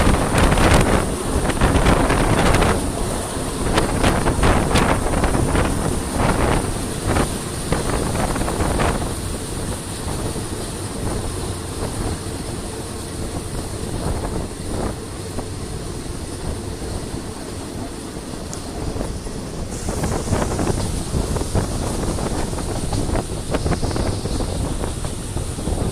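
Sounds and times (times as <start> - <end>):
train wheels rumbling on track: 0.0 - 25.9
wind on microphone: 0.0 - 25.9.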